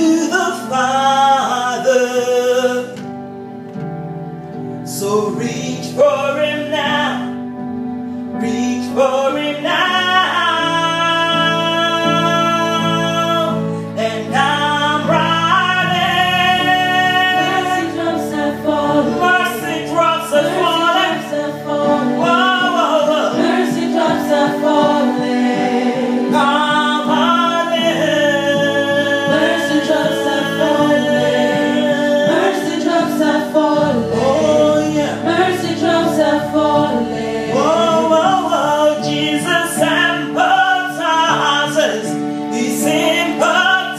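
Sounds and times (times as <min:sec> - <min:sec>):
low accompanying chords: 0:00.0 - 0:43.9
voices singing gospel song: 0:08.4 - 0:43.9.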